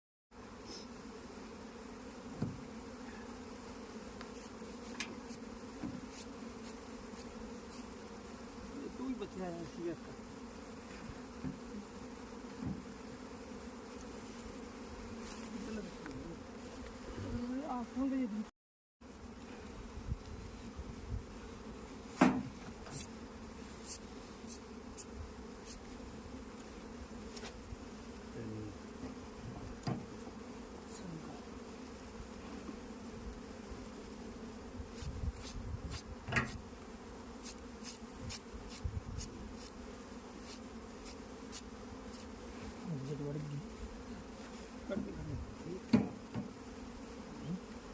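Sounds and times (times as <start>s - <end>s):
honeybees buzzing: 0.3s - 47.9s.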